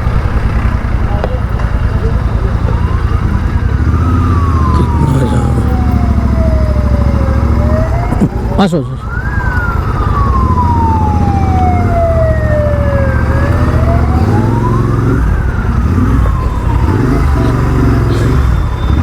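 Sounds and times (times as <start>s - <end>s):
emergency vehicle siren wailing: 0.0s - 19.0s
traffic engines rumbling: 0.0s - 19.0s.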